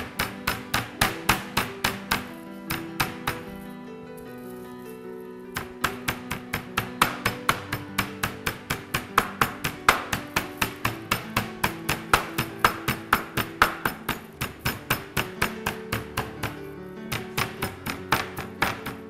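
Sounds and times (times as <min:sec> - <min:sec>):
rolling pin thudding on meat: 0:00.0 - 0:03.6, 0:05.5 - 0:19.0
background music: 0:00.0 - 0:19.0.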